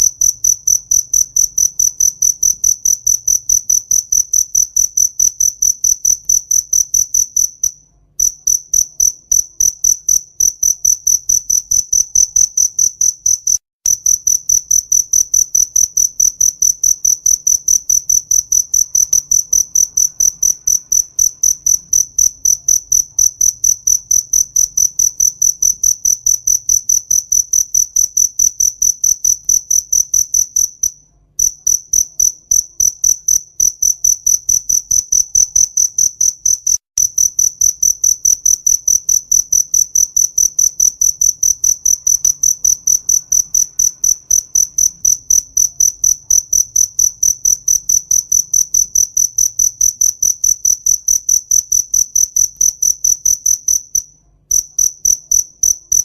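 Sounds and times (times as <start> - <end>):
cricket chirping: 0.0 - 56.0.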